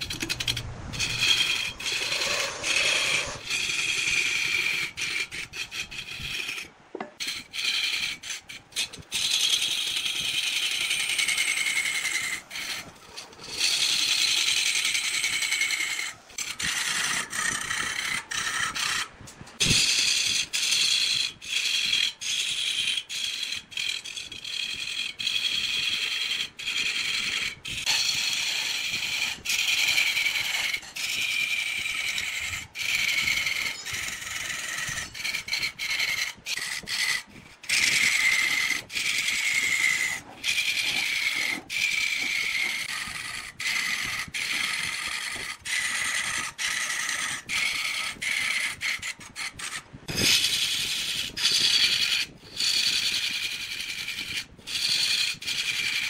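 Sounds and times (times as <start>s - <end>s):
lathe tool scraping wood: 0.0s - 56.0s.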